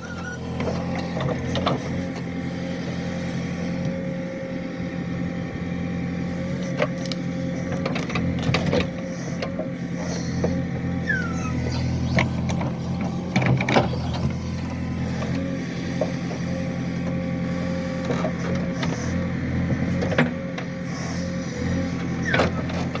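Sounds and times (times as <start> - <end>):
constant whine: 0.0 - 23.0
diesel engine running: 0.0 - 23.0.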